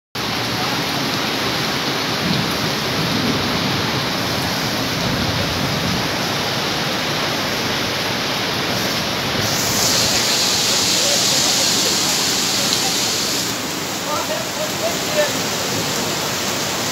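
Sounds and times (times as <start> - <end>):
floodwater rushing: 0.2 - 16.9
heavy rain pouring: 0.2 - 16.9.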